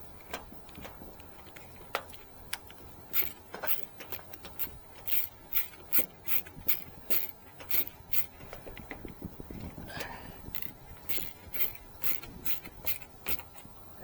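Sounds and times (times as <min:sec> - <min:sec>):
sharp clicks of part twisted: 0:00.2 - 0:09.7, 0:10.4 - 0:13.8.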